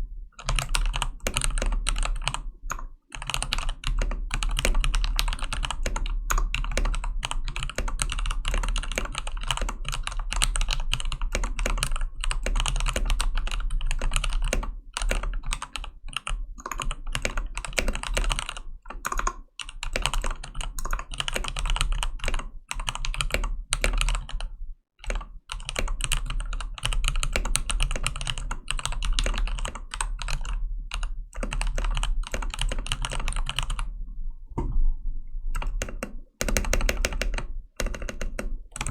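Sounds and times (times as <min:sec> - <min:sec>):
fast mechanical keyboard typing: 0:00.4 - 0:33.9, 0:35.6 - 0:38.9.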